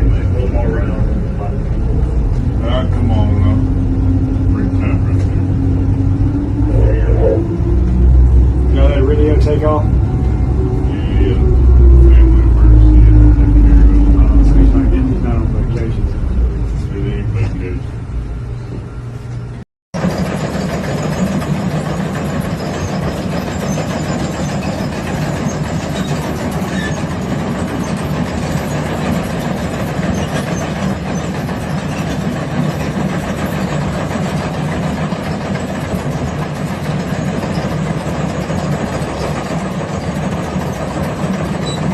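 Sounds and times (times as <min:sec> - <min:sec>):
heavy machinery humming: 0:00.0 - 0:41.9.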